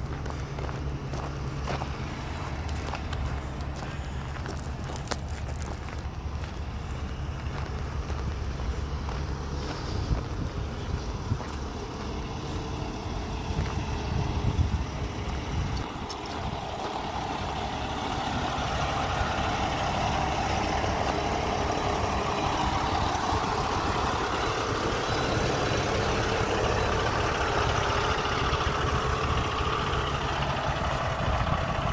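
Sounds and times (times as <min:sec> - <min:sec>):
diesel truck engine running: 0:00.0 - 0:31.9.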